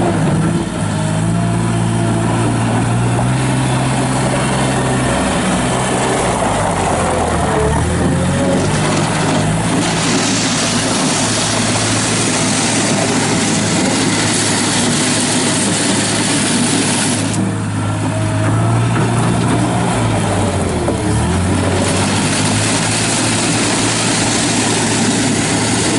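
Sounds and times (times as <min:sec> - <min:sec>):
diesel engine drone: 0:00.0 - 0:25.9.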